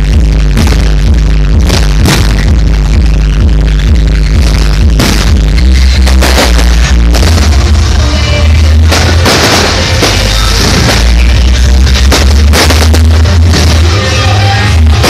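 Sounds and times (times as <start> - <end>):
loud party music with heavy bass: 0.0 - 15.0
fireworks bangs: 0.4 - 3.2, 4.3 - 15.0.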